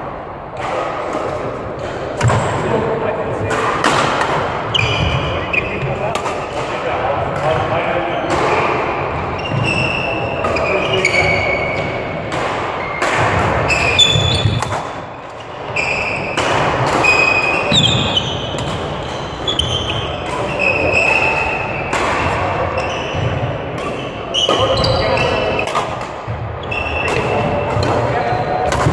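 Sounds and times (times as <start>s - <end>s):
racket hitting shuttlecock: 3.4s - 7.6s, 8.3s - 28.9s
shoes squeaking on court floor: 4.4s - 6.7s, 7.4s - 28.9s.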